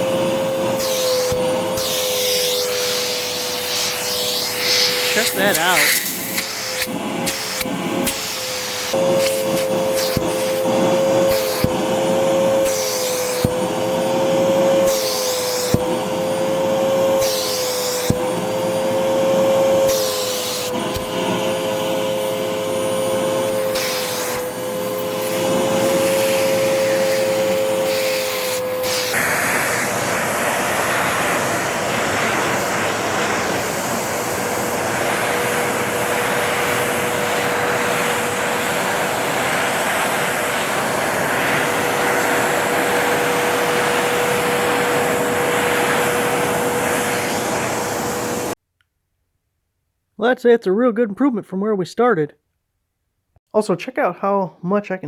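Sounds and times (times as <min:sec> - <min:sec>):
nozzle sucking hair rasps: 0:00.0 - 0:48.6
vacuum cleaner whine: 0:00.0 - 0:48.6.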